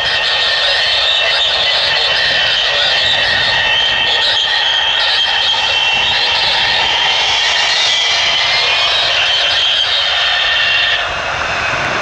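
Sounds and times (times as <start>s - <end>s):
jet engine high-pitched whine: 0.0s - 12.0s
jet engine rushing noise: 0.0s - 12.0s.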